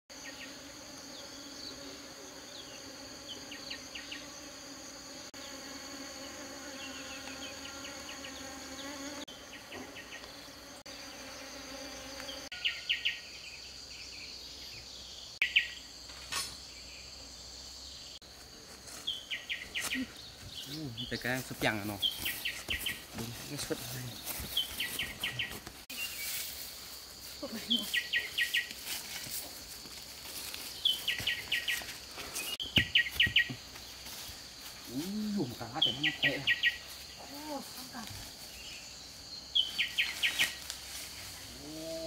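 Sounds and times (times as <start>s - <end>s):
insects buzzing: 0.1s - 42.0s.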